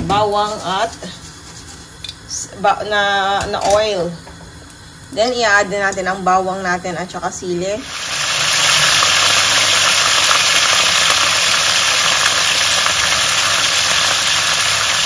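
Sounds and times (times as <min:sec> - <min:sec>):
garlic and chili sizzling in oil: 0:00.0 - 0:15.0.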